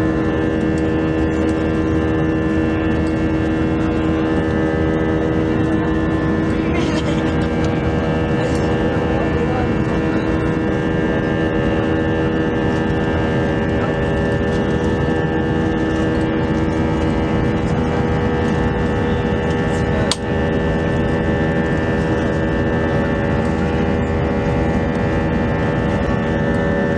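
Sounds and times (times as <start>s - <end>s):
airplane cabin engine noise: 0.0s - 26.9s.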